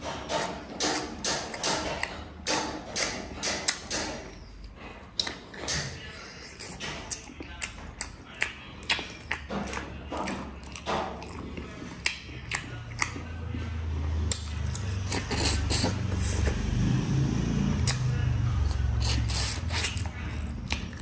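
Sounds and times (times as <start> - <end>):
wet chewing and smacking: 0.0 - 21.0.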